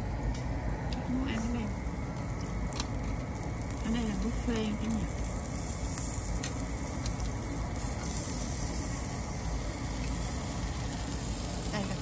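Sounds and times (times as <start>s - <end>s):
food sizzling on a grill: 0.0s - 12.0s.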